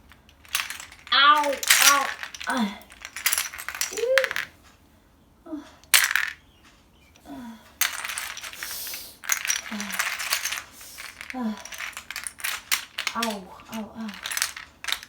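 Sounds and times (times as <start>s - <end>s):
plastic toys clattering: 0.0s - 4.6s, 5.8s - 6.4s, 7.8s - 15.0s.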